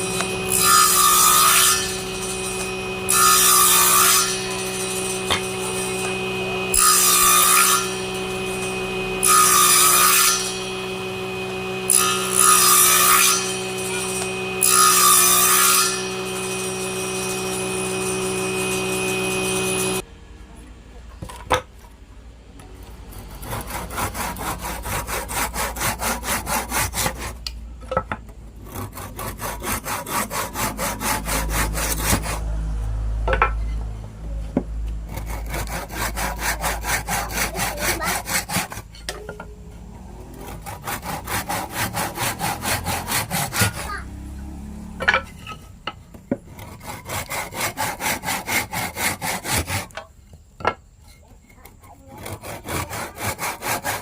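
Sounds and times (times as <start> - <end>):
hand saw cutting wood: 0.0 - 20.0, 22.7 - 54.0.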